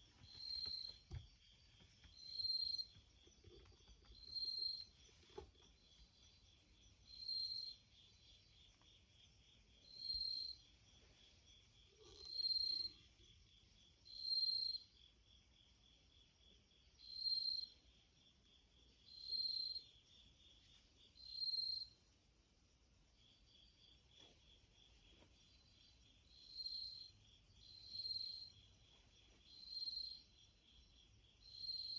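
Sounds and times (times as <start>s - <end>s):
cricket chirping: 0.0s - 31.9s.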